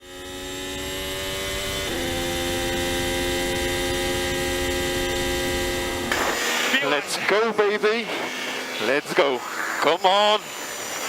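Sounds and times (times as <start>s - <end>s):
racing car engine onboard: 0.0s - 11.0s.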